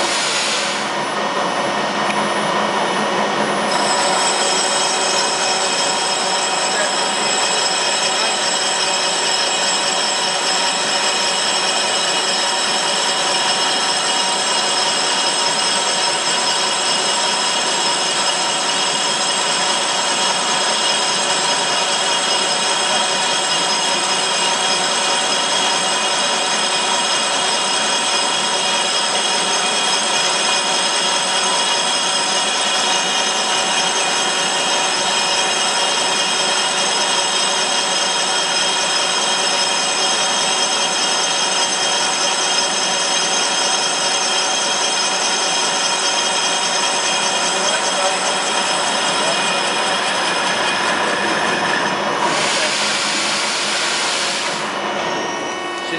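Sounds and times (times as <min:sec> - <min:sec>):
lathe machine whine: 0:00.0 - 0:55.9.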